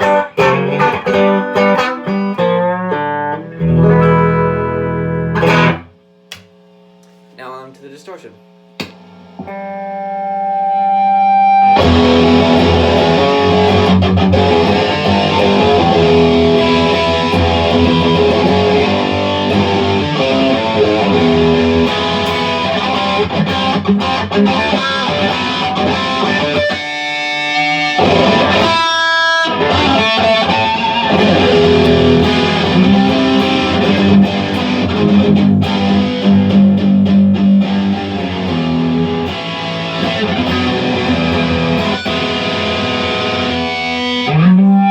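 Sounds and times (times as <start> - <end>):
distorted electric guitar: 0.0 - 7.0, 8.5 - 44.9.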